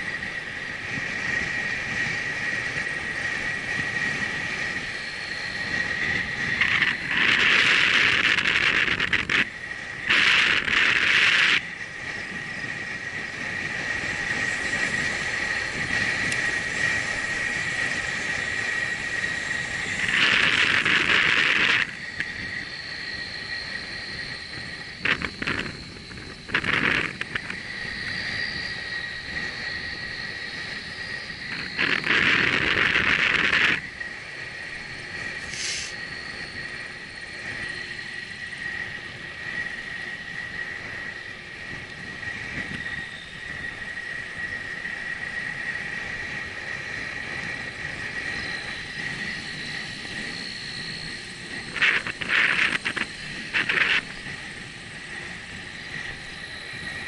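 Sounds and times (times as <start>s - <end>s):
loud gusts of noise: 0.0s - 57.0s
second higher whine: 0.0s - 57.0s
steady rushing riding noise: 0.0s - 57.0s
thin high whine: 0.0s - 57.0s.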